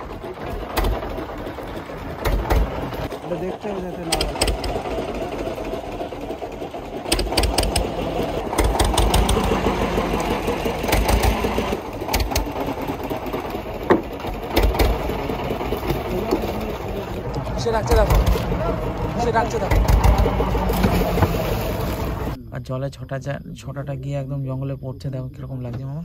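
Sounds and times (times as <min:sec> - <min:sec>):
boat engine running: 0:00.0 - 0:22.6.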